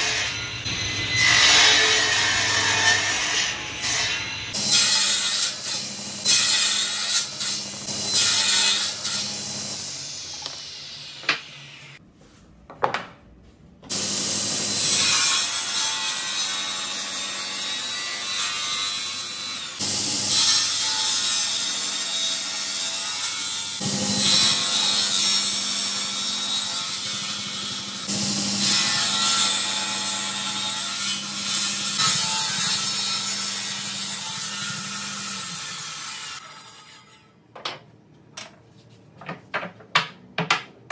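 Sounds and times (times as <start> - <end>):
table saw cutting wood: 0.0 - 12.0, 13.9 - 37.2.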